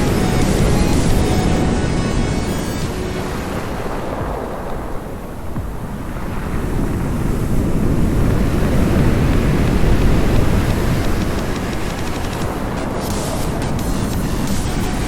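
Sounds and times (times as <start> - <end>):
sea waves washing onto shore: 0.0 - 15.0
wind buffeting microphone: 0.0 - 15.0.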